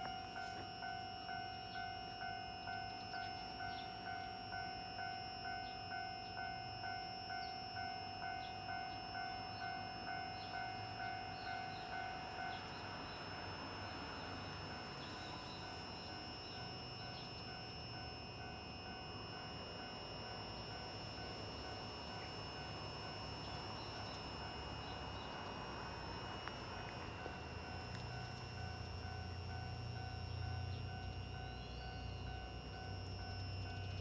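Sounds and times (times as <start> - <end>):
crossing bell two-tone ding: 0.0 - 34.0.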